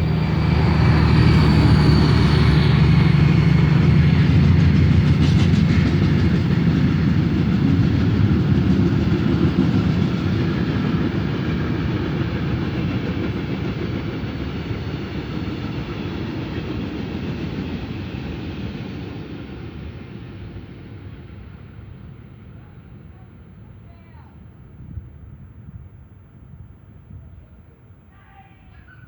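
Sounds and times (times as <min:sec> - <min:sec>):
freight train rumble and wheel clatter: 0:00.0 - 0:29.0.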